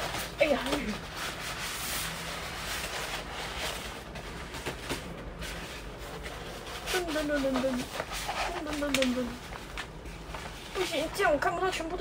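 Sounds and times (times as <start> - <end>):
paper posters rustling: 0.0 - 12.0.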